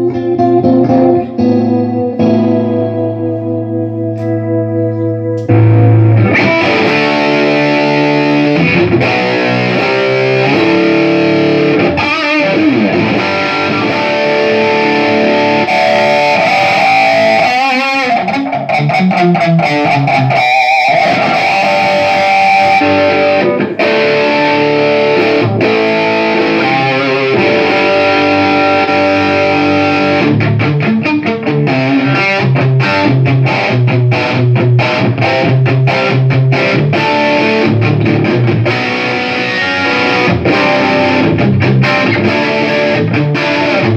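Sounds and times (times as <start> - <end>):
electric guitar chords and notes: 0.0 - 43.9.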